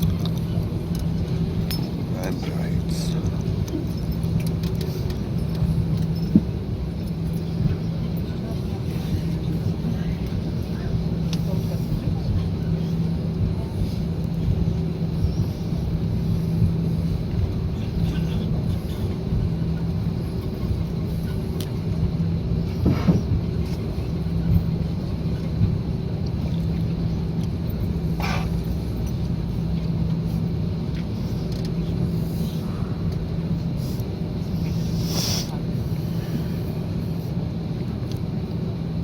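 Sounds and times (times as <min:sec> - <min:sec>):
airplane cabin rumble: 0:00.0 - 0:39.0
hum: 0:00.0 - 0:39.0.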